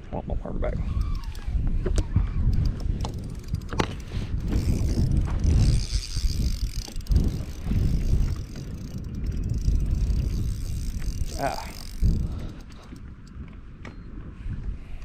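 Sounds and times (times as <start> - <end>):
wind rumbling on microphone: 0.0 - 15.0
fishing reel being cranked: 0.8 - 13.4.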